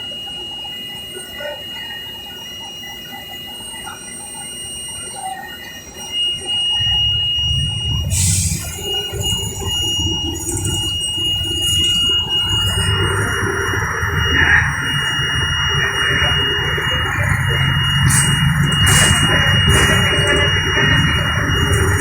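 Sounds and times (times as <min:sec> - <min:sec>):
high-pitched alarm tone: 0:00.0 - 0:22.0.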